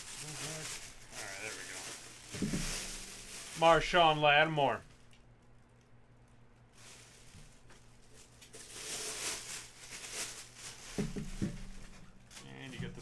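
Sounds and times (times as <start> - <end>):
plastic bag crinkling: 0.0 - 5.8, 6.5 - 13.0
faint electrical hum: 0.0 - 13.0.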